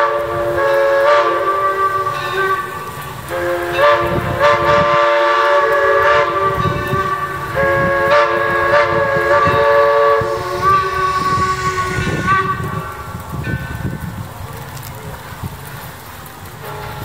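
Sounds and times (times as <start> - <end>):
steam locomotive whistle: 0.0 - 14.0, 16.6 - 17.0
locomotive exhaust rumbling: 0.0 - 17.0.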